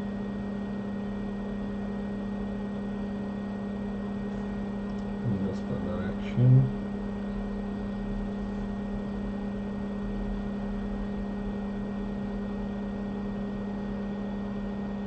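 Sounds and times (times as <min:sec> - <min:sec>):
electric hum with fan hiss: 0:00.0 - 0:15.0.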